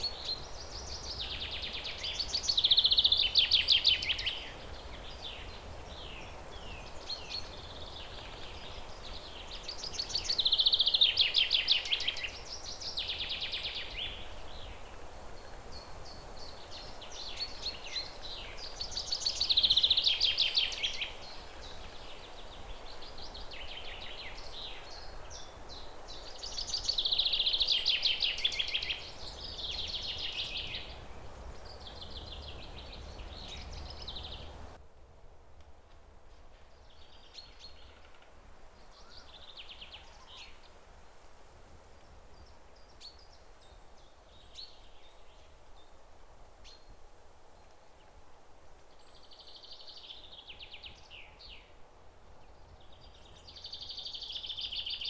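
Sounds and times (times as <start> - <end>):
songbirds chirping: 0.0 - 34.8, 36.4 - 55.0
steady low background noise: 0.0 - 55.0.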